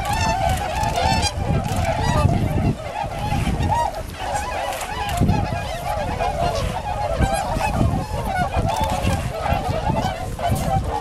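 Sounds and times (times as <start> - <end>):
flock of swans honking: 0.0 - 11.0.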